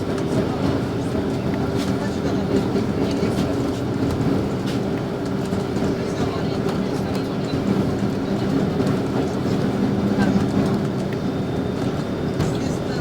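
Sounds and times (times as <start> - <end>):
bodywork rattles and clicks: 0.0 - 13.0
bus engine humming: 0.0 - 13.0.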